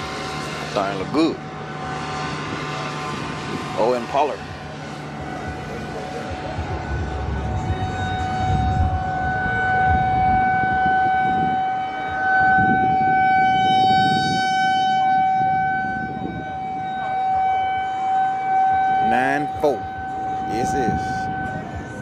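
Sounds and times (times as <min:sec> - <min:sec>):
rough low rumble: 0:00.0 - 0:22.0
siren steady pitch: 0:00.0 - 0:22.0.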